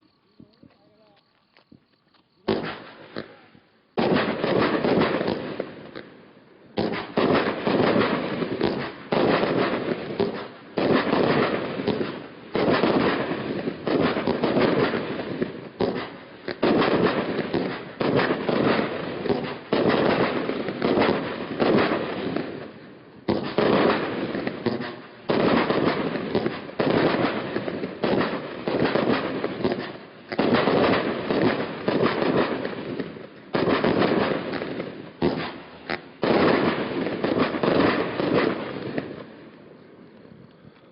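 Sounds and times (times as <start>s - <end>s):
firework shots: 0.0s - 40.9s.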